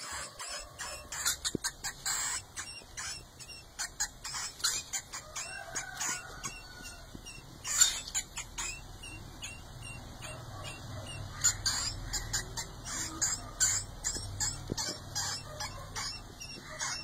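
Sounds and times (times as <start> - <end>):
mouse squeaking: 0.0 - 17.0.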